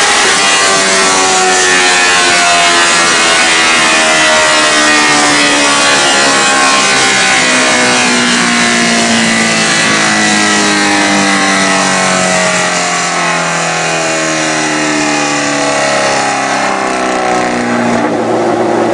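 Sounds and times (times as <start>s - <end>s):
motorcycle engine revs falling: 0.0s - 18.9s.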